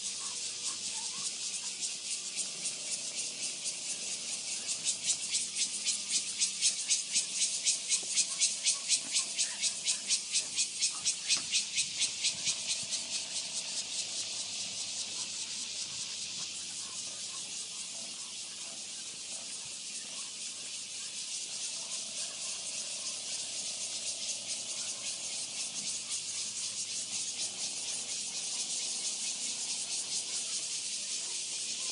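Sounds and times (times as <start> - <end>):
cicadas buzzing: 0.0 - 31.9.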